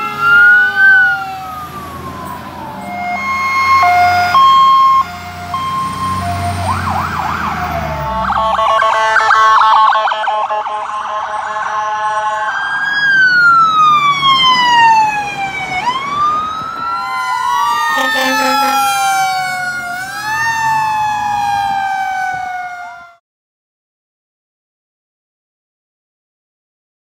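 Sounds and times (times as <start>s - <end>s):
emergency vehicle siren wailing: 0.0s - 23.2s
second siren: 0.0s - 23.2s.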